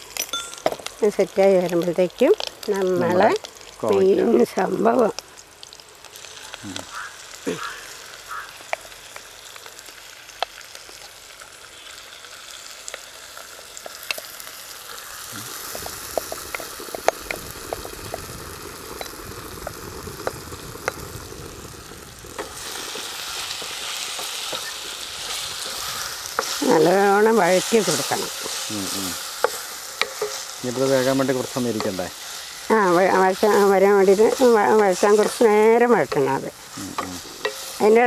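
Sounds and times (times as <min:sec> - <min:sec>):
vegetables sizzling in oil: 0:00.0 - 0:38.0.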